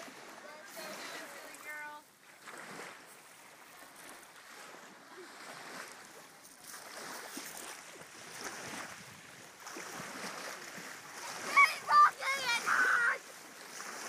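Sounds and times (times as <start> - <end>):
small waves lapping on shore: 0.0 - 14.0.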